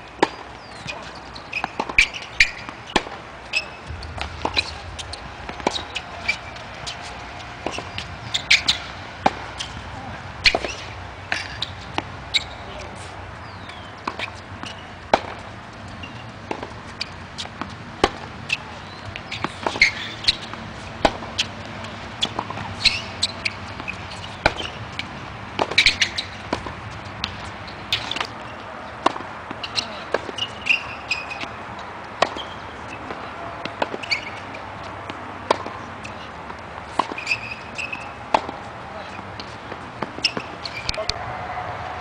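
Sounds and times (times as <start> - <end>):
shoes squeaking: 0.0 - 42.0
tennis ball hit by racket: 0.2 - 12.9, 13.6 - 31.5, 32.2 - 38.7, 39.4 - 41.8
tennis ball bouncing on court: 0.2 - 31.6, 32.2 - 41.2.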